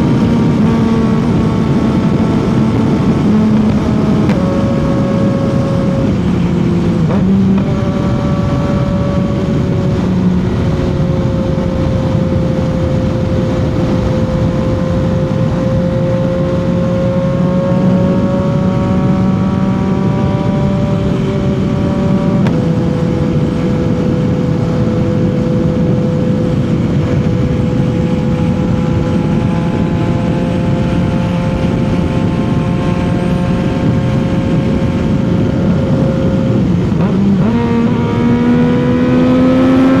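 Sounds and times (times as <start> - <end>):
motorcycle engine at speed: 0.0 - 40.0.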